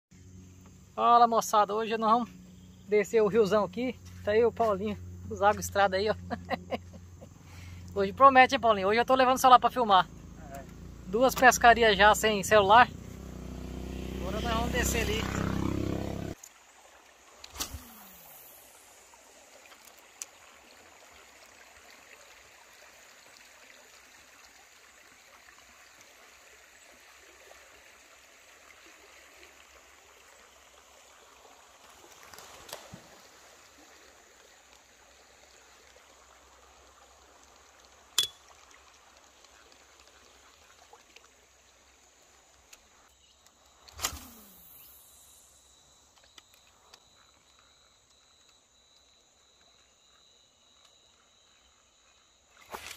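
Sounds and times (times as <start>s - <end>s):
river water trickling and lapping: 0.2s - 52.9s.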